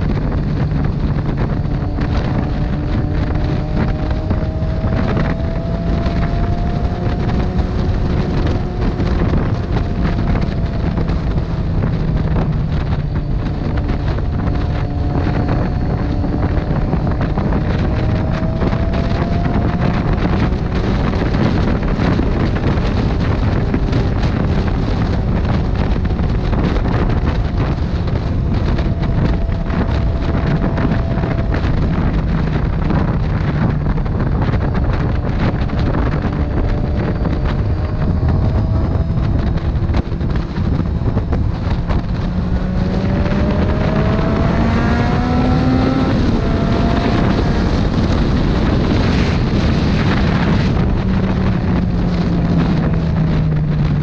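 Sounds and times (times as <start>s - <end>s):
motorcycle engine: 0.0s - 54.0s
wind noise on microphone: 0.0s - 54.0s.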